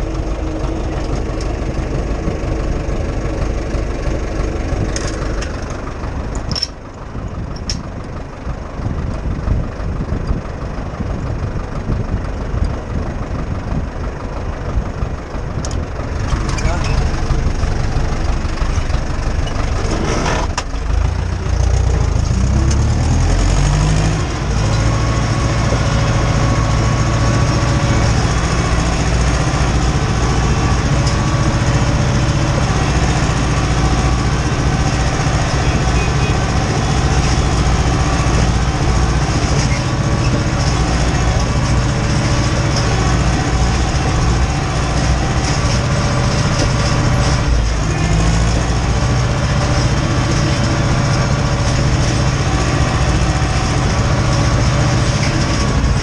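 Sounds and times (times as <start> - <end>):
tractor diesel engine: 0.0 - 56.0.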